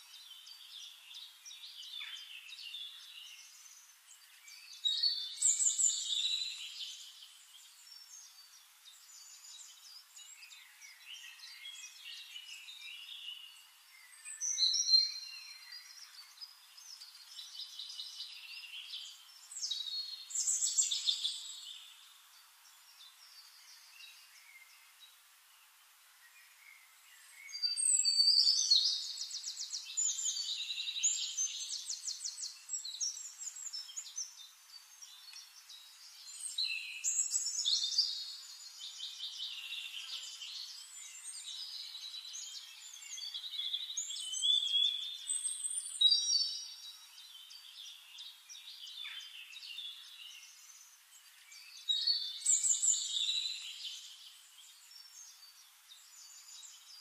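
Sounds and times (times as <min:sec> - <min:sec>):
small birds singing: 0:00.0 - 0:57.0.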